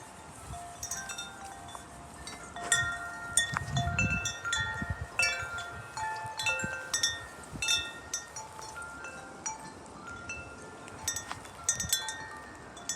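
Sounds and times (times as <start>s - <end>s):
metal wind chimes ringing: 0.0s - 12.9s
wind rumble on microphone: 0.0s - 12.9s.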